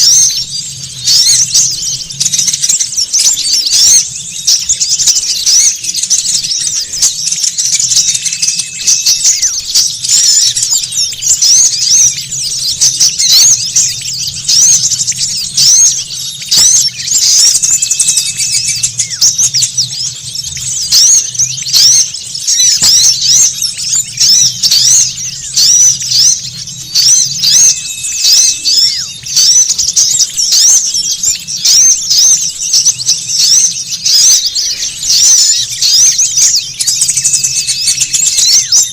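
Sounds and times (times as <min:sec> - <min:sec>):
songbirds chattering: 0:00.0 - 0:38.9.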